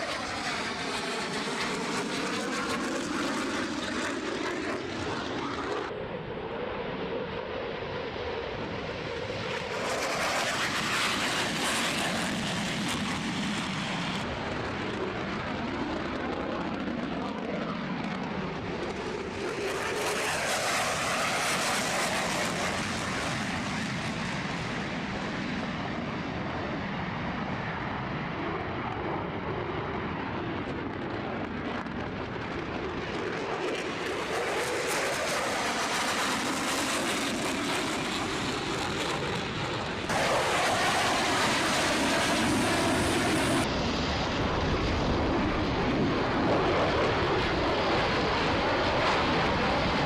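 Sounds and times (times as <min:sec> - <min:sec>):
jet aircraft engine noise: 0:00.0 - 0:50.0.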